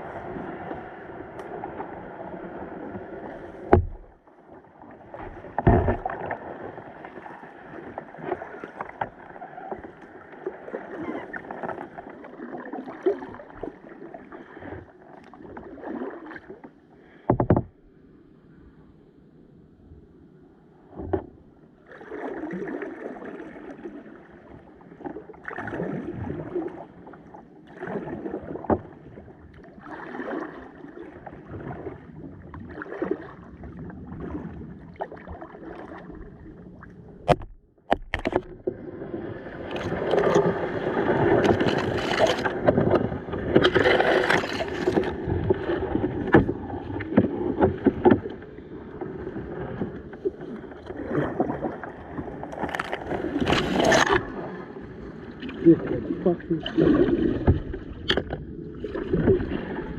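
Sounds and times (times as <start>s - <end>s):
kayak paddle splashing in water: 0.0s - 4.2s, 4.8s - 17.7s, 21.9s - 59.9s.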